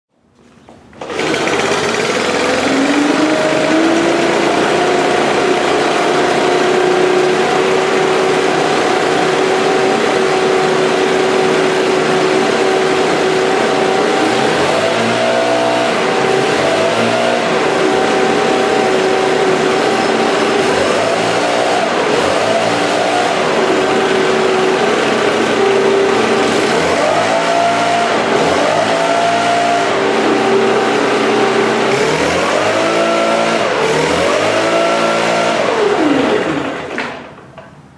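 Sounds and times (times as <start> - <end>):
leaf blower engines running: 0.4 - 37.4.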